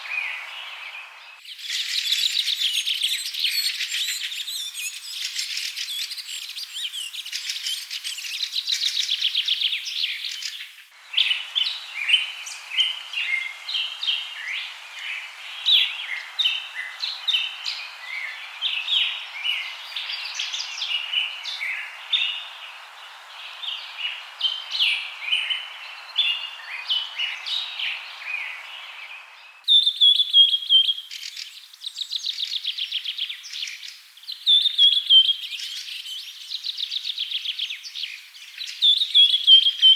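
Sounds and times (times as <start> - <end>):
birds chirping and singing: 0.0 - 36.4
whistled bird notes: 0.0 - 39.9.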